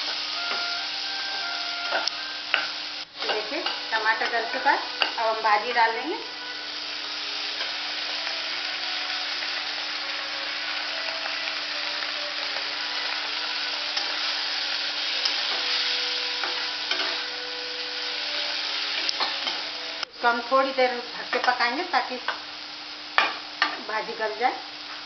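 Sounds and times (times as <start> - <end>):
leaves sizzling in oil: 0.0 - 25.0.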